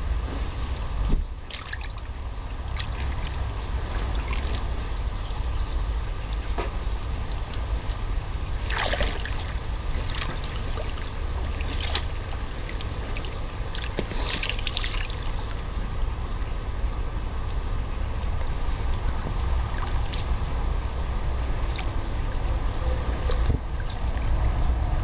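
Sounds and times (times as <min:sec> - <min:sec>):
wind rumble on microphone: 0:00.0 - 0:25.0
pool water splashing: 0:01.4 - 0:16.8, 0:18.1 - 0:25.0.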